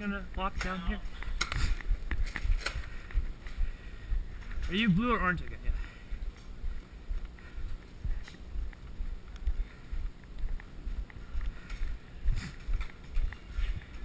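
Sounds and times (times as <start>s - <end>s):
footsteps with low thuds: 0.0s - 14.0s
low rumble: 1.0s - 14.0s.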